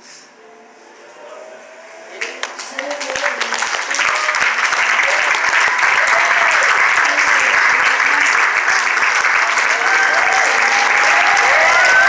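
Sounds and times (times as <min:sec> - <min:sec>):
crowd clapping: 0:02.1 - 0:12.0.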